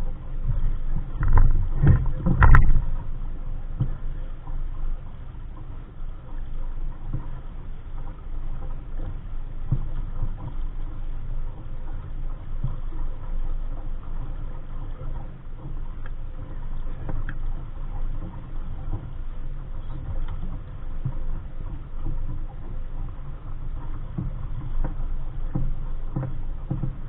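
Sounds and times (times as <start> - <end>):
water splashing: 0.0 - 27.0
wind buffeting microphone: 0.0 - 27.0.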